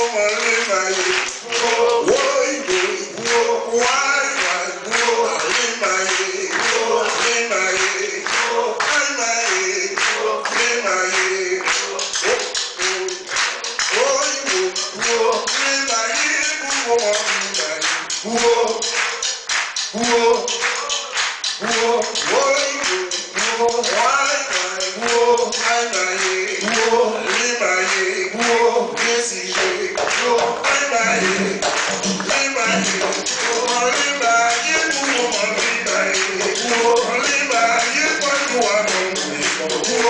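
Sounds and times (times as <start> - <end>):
drumming: 0.0 - 40.0
people singing: 0.0 - 40.0
rhythmic hand-clapping: 0.0 - 40.0.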